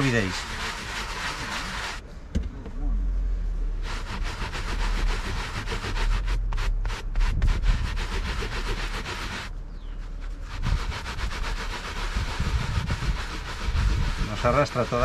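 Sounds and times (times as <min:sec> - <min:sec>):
towel scrubbing fabric: 0:00.0 - 0:02.0, 0:03.8 - 0:15.0.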